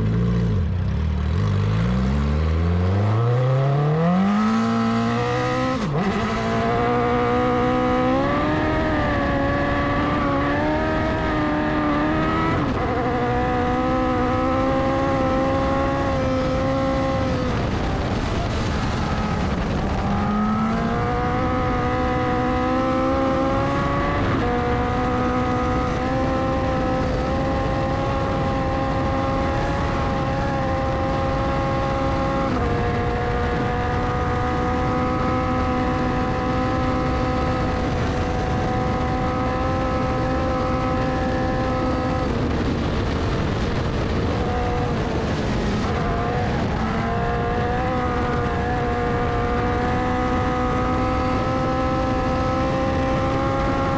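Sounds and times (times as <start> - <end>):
wind noise: 0.0 - 53.9
race car engine revving: 1.3 - 53.9.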